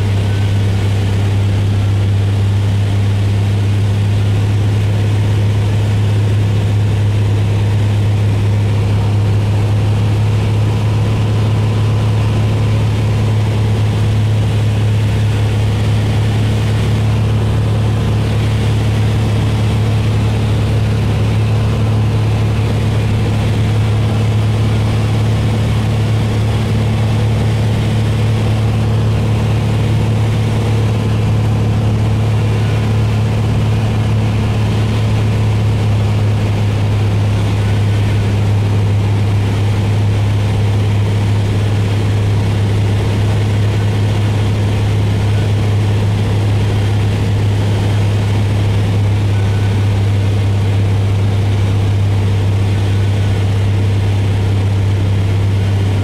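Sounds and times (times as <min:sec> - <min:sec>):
aircraft piston engine droning: 0:00.0 - 0:56.0.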